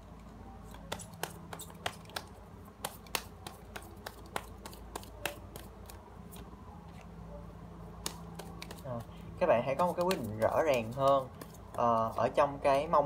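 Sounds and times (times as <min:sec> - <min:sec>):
cards being shuffled: 0:00.6 - 0:07.1, 0:08.0 - 0:12.4.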